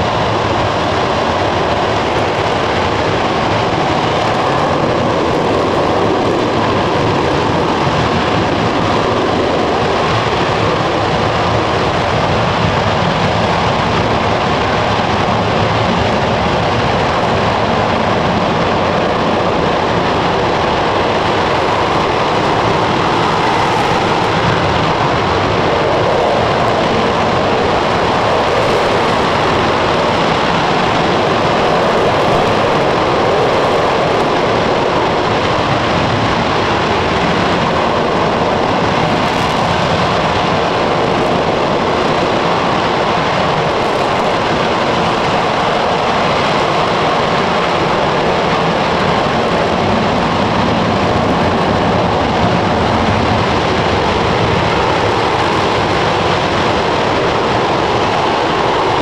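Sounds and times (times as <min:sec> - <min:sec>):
rocket engine exhaust roar: 0:00.0 - 0:59.0.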